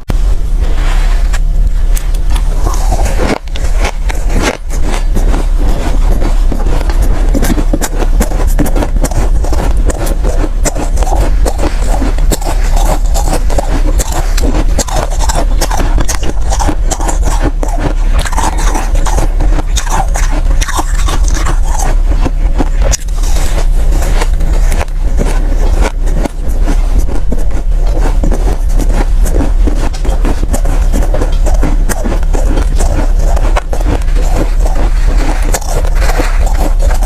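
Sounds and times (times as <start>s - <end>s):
ice crunching and scraping: 0.6s - 37.0s.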